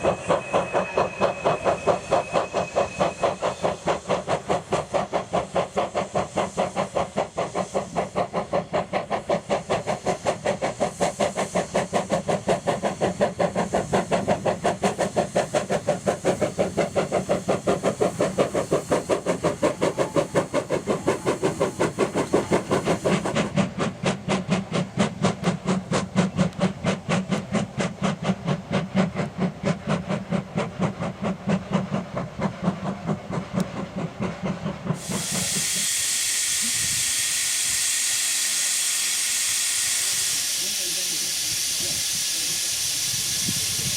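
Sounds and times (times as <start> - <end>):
hiss of steam: 0.0 - 43.9
steam locomotive exhaust beats: 0.0 - 43.9.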